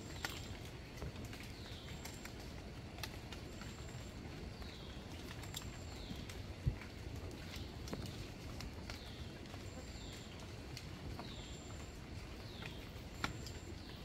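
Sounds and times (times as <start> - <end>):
small birds chirping: 0.0 - 0.7, 1.3 - 2.6, 3.4 - 14.0
scattered clicks: 0.1 - 11.9, 12.5 - 13.9.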